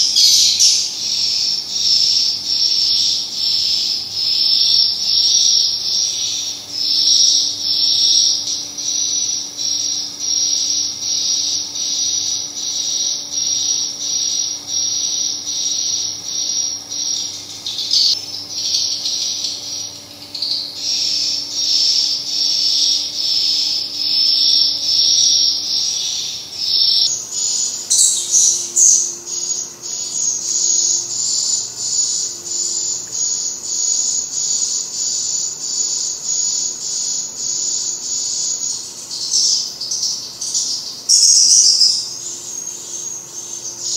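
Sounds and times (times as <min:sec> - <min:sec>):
recorded swiftlet chirping from speakers: 0:00.0 - 0:43.9.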